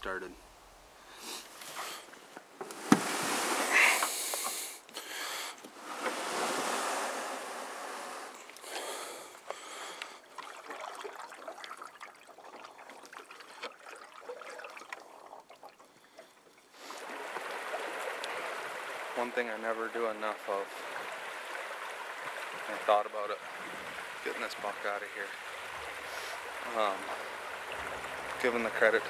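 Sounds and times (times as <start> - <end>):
water swishing and splashing: 0.0 - 4.5, 5.6 - 29.0
water lapping: 0.7 - 29.0.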